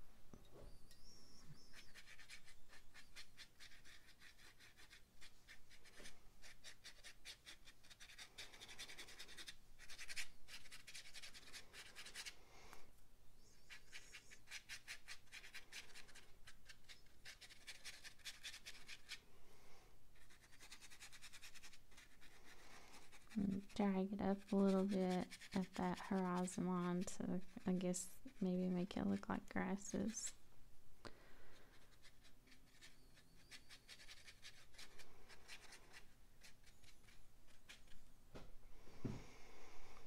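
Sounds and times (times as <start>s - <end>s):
paintbrush scratching paper: 1.6s - 12.4s, 13.6s - 19.2s, 20.1s - 30.4s, 31.5s - 38.0s.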